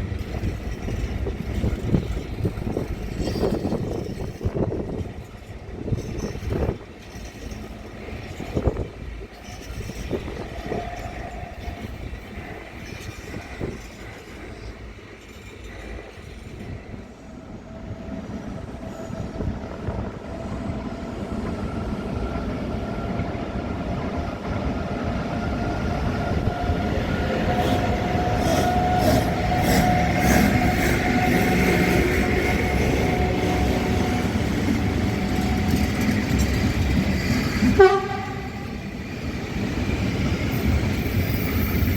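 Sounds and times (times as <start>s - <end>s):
train wheels clicking: 0.0s - 17.2s, 18.0s - 41.9s
train rumbling: 0.0s - 41.9s.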